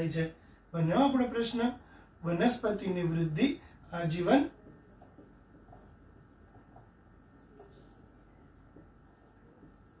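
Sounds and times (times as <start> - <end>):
low steady hum: 0.0 - 10.0
marker writing on whiteboard: 1.0 - 10.0.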